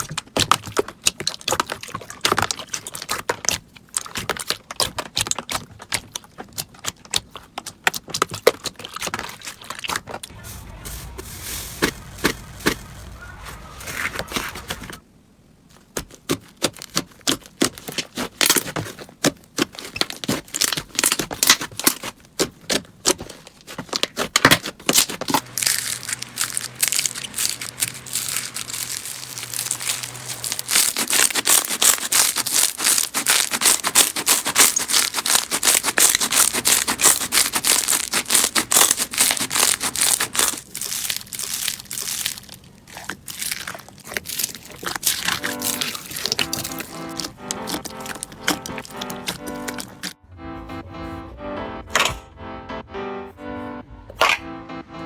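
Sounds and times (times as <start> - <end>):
slime crackling and popping: 0.0 - 14.9, 16.3 - 50.2.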